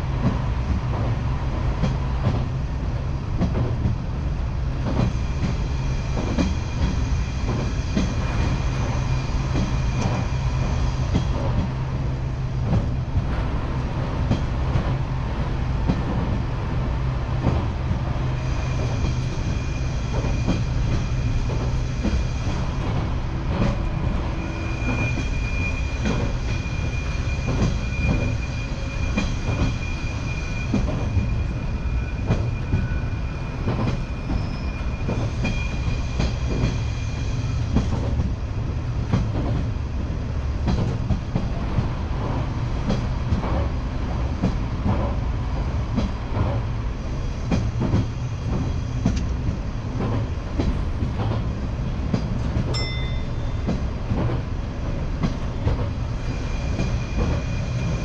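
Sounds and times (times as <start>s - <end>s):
rail vehicle rumbling: 0.0s - 58.0s.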